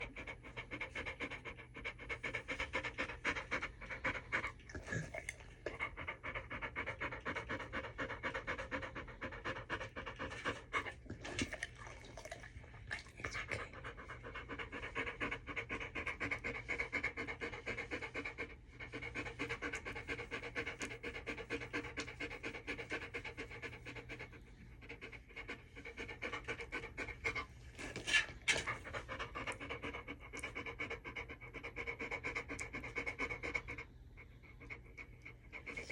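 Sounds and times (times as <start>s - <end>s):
dog panting rapidly: 0.0s - 11.7s, 13.4s - 35.9s.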